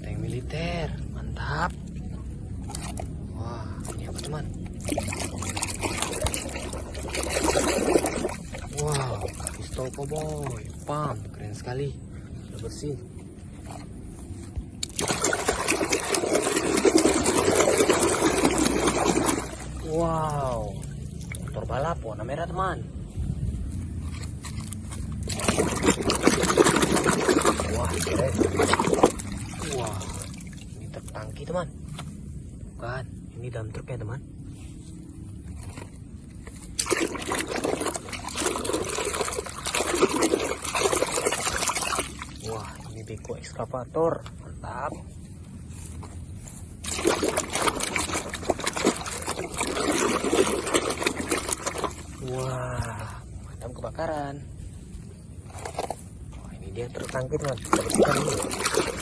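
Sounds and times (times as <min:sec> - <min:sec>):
water pouring and splashing: 0:00.0 - 0:11.7, 0:13.5 - 0:22.6, 0:23.3 - 0:32.3, 0:35.4 - 0:43.6, 0:44.9 - 0:59.0.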